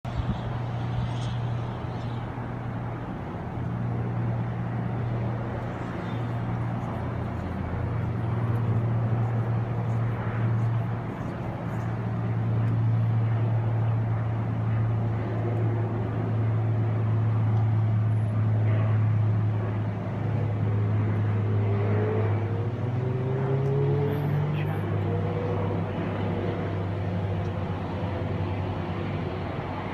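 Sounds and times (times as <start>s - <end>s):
engine humming: 0.0s - 29.9s
outdoor noise: 0.0s - 29.9s.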